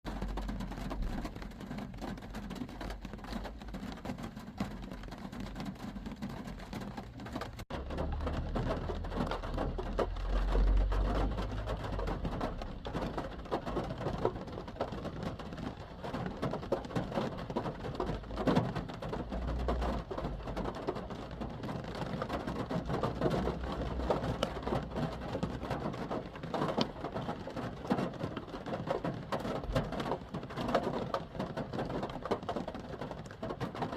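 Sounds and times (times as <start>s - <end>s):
rain pattering on car roof: 0.0s - 33.9s.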